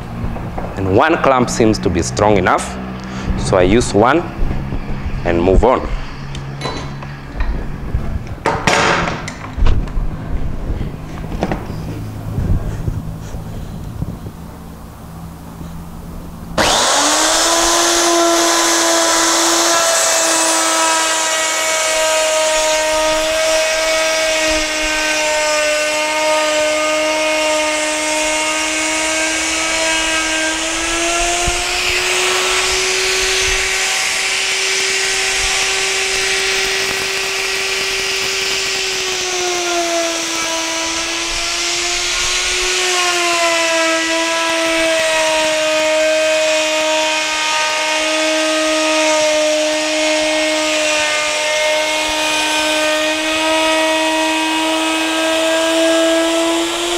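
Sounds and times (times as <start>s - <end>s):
electric router whining: 0.0s - 8.5s, 9.2s - 56.9s.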